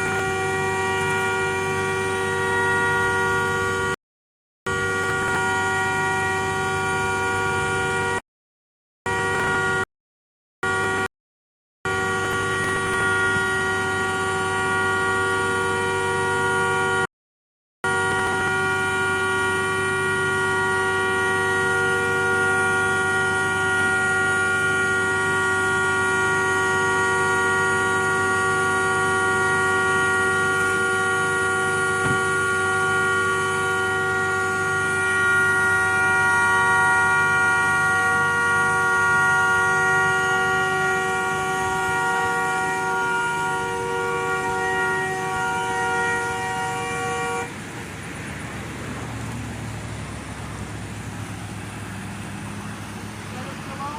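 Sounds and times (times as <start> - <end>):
horn-like drone: 0.0 - 4.0, 4.7 - 8.2, 9.1 - 9.9, 10.6 - 11.1, 11.9 - 17.1, 17.8 - 53.9.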